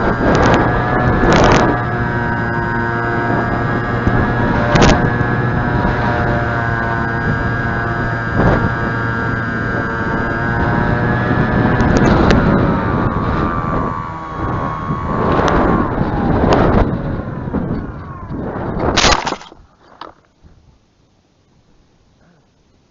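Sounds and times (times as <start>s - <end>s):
model plane motor whine: 0.0s - 19.5s
wind buffeting microphone: 0.0s - 20.7s.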